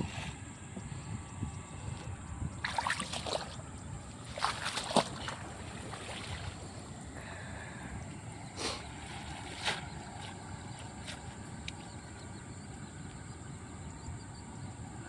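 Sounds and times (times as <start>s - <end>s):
low steady rumble: 0.0s - 15.0s
water splashing and sloshing: 2.0s - 15.0s.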